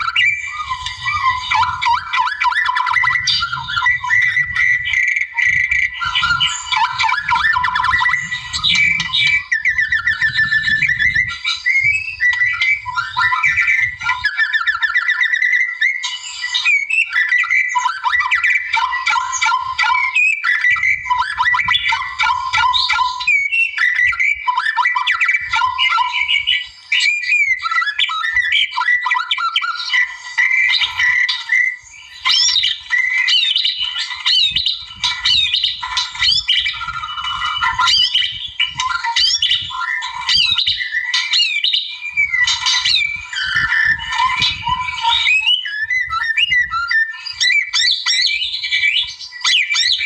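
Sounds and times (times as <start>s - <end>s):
bird singing whistles: 0.0s - 50.0s.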